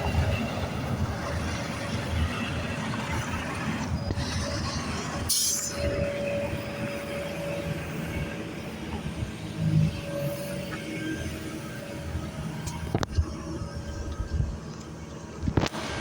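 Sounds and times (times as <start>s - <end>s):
heavy machinery rumbling: 0.0s - 16.0s
steady whine: 0.0s - 16.0s.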